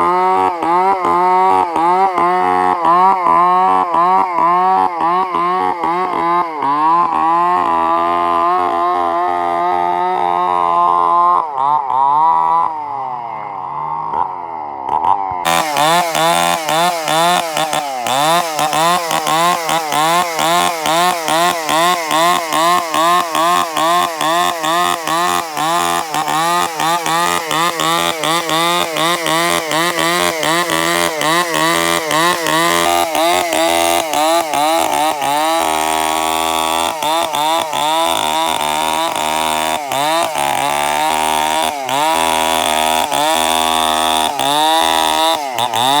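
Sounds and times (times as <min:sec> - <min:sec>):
chainsaw engine revving: 0:00.0 - 0:46.0.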